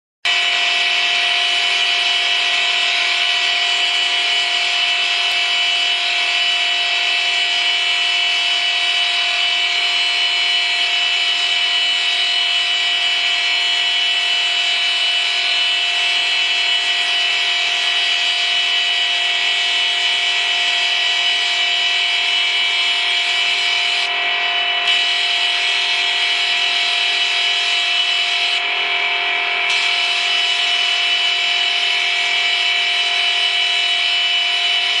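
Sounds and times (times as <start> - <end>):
high machine whine: 0.2 - 35.0.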